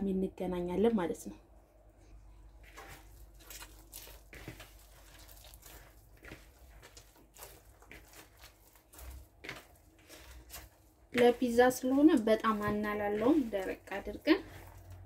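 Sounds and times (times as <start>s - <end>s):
hands kneading dough: 1.9s - 15.0s.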